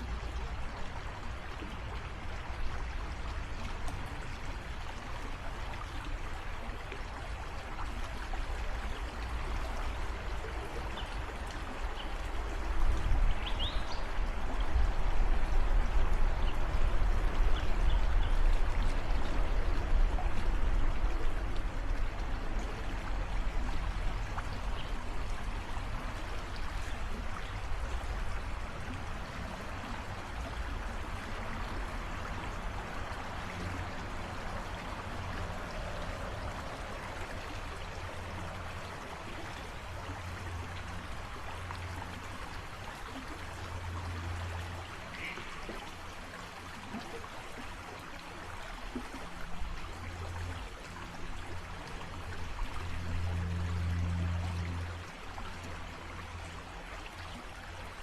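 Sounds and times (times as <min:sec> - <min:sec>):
creek water rushing and babbling: 0:00.0 - 0:58.0.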